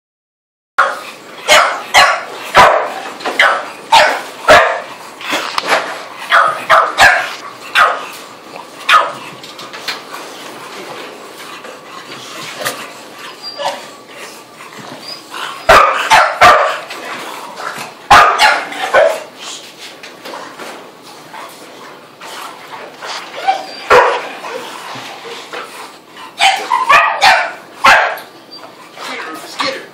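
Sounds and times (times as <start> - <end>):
dogs barking playfully: 0.8 - 10.4, 12.0 - 19.4, 22.7 - 29.8.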